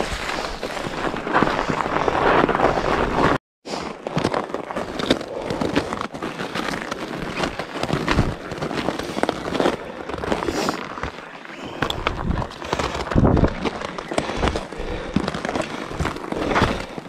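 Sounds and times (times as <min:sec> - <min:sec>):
bike tyres crunching over snow: 0:00.0 - 0:17.0.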